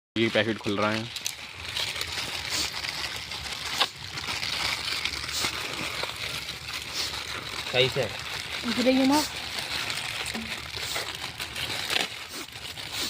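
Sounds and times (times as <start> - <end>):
plastic packets tearing and crinkling: 0.2 - 13.0
sharp crackles: 0.2 - 13.0
cooking fire hissing: 0.3 - 13.0.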